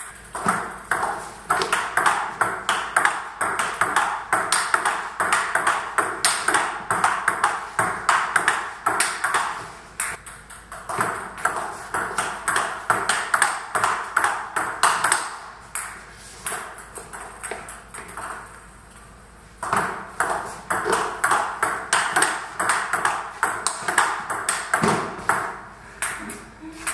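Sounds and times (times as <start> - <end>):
table tennis ball hits: 0.0 - 18.6, 19.6 - 26.9.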